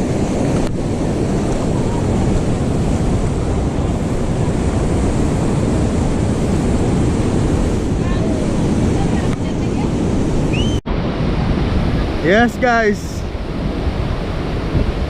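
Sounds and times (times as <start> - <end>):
sea surf washing onto beach: 0.0 - 15.0
wind buffeting microphone: 0.0 - 15.0.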